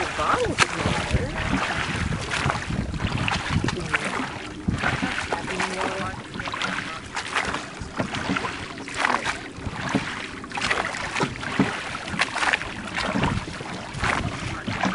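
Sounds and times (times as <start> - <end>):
oars splashing and knocking: 0.0 - 14.9.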